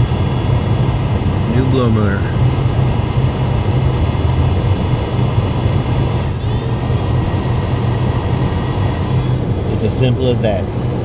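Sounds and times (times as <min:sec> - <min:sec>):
blower fan rushing air: 0:00.0 - 0:11.0.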